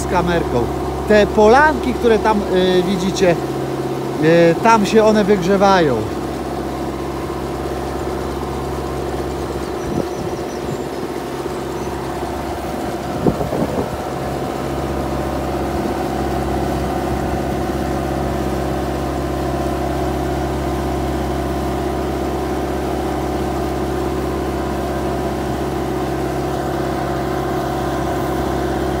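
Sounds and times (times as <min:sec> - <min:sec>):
boat engine running: 0:00.0 - 0:29.0
paddle wheels churning water: 0:00.0 - 0:29.0.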